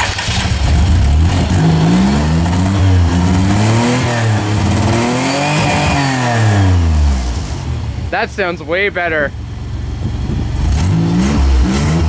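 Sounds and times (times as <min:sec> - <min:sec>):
van engine revving: 0:00.0 - 0:08.5, 0:09.1 - 0:12.0.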